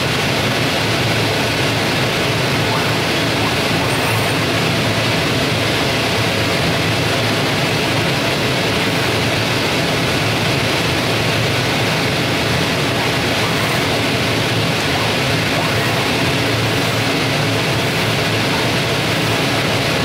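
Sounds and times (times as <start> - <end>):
cutting machine rushing noise: 0.0 - 20.0.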